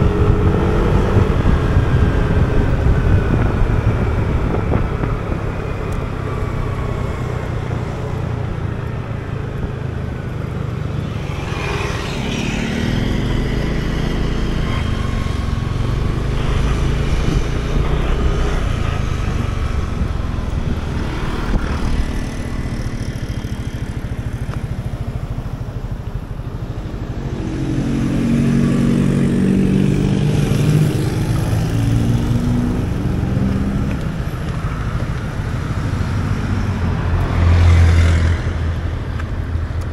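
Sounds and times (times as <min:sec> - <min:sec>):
traffic passing: 0:00.0 - 0:39.9
wind noise on microphone: 0:00.0 - 0:39.9.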